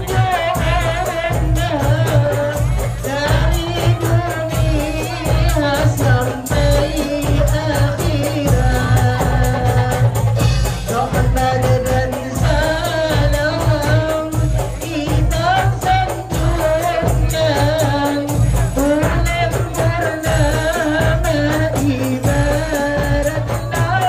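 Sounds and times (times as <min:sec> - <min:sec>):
steady percussion beat: 0:00.0 - 0:24.0.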